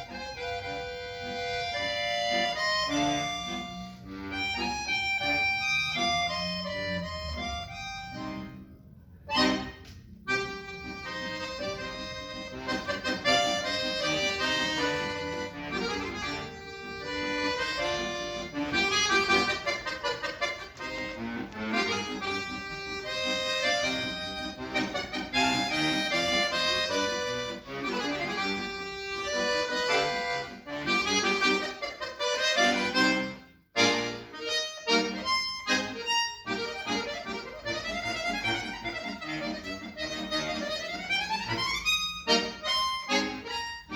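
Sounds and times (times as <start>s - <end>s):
accordion playing: 0.0s - 43.9s.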